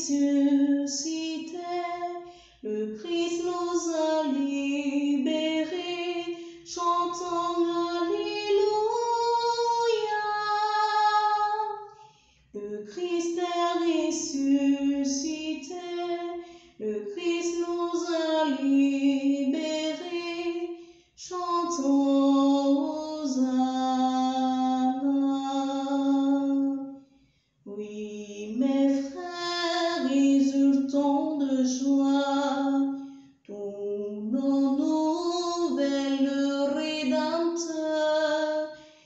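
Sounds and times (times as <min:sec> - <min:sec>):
woman singing a hymn: 0:00.0 - 0:11.8, 0:12.6 - 0:26.9, 0:27.7 - 0:32.9, 0:33.5 - 0:38.8.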